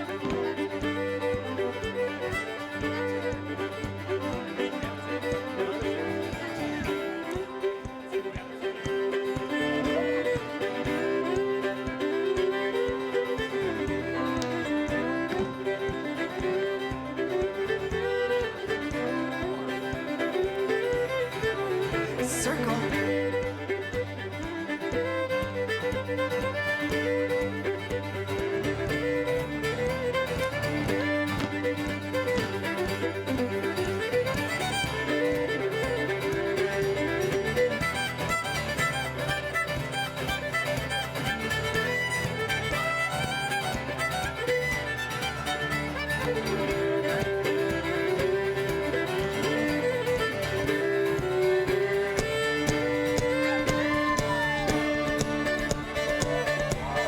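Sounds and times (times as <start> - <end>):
fiddle melody: 0.0 - 57.0
guitar backing: 0.0 - 57.0.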